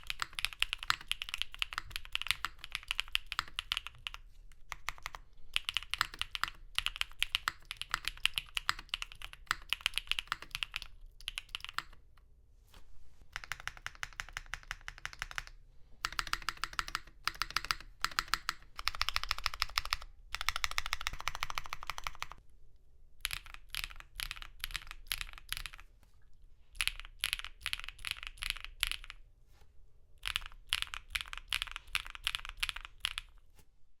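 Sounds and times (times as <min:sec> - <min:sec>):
mechanical keyboard typing: 0:00.0 - 0:12.1, 0:13.3 - 0:22.4, 0:23.2 - 0:25.8, 0:26.8 - 0:29.2, 0:30.2 - 0:33.4.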